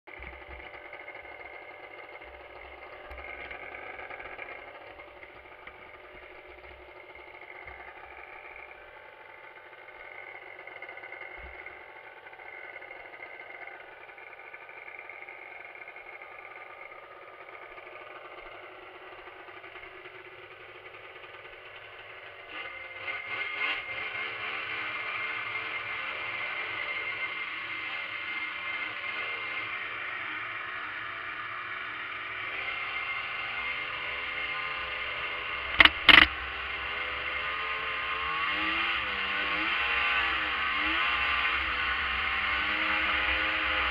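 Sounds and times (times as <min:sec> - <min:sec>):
snowmobile engine idling and revving: 0:00.0 - 0:43.9.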